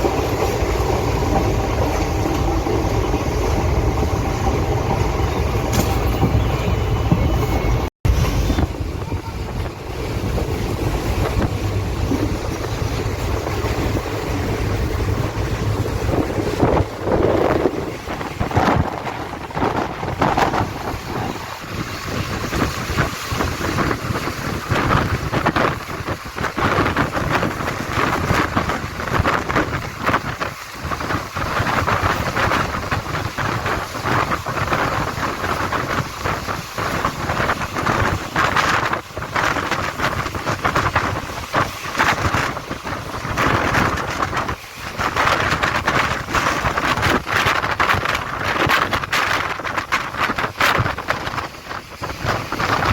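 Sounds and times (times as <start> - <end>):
train rumbling on track: 0.0 - 52.9.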